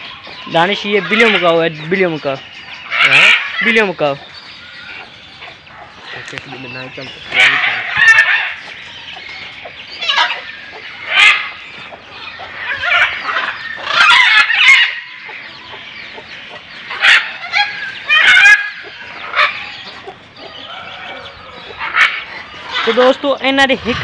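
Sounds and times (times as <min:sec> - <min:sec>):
birds squawking and clucking: 0:00.0 - 0:24.0.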